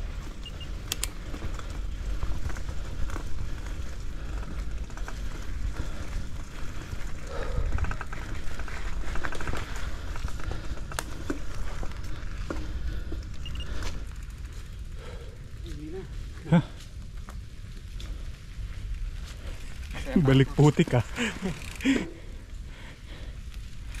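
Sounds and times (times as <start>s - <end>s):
bike clicks and rattles: 0.0s - 24.0s
bike rumbling on rough trail: 0.0s - 24.0s.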